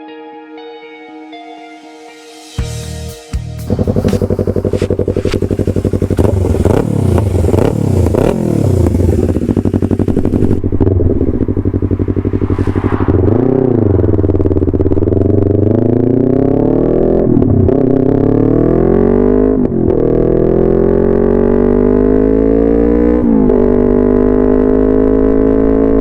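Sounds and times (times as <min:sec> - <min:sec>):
motorcycle engine idling and revving: 0:03.5 - 0:26.0.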